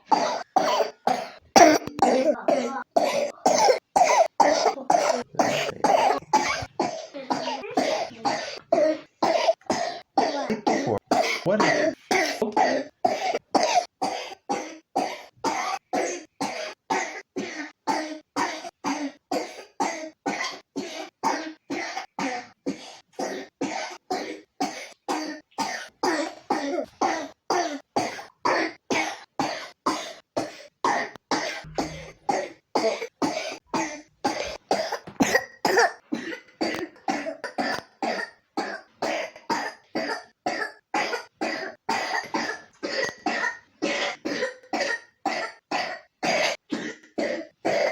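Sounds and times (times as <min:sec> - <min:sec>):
child coughing: 0:00.0 - 0:47.9.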